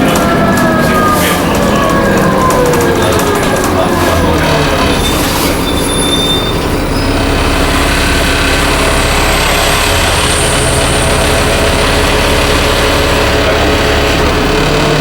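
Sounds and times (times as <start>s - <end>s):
bus engine running: 0.0s - 15.0s
turbocharger whine: 0.0s - 15.0s.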